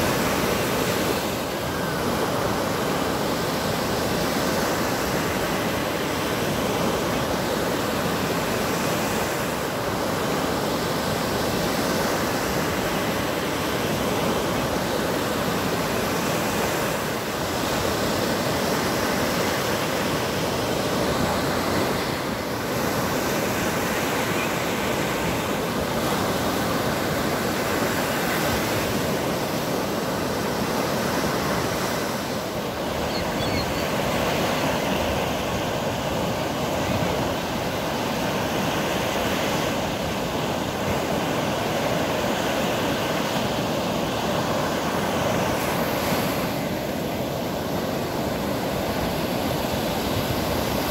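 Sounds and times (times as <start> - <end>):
waves breaking on sandy beach: 0.0 - 50.9.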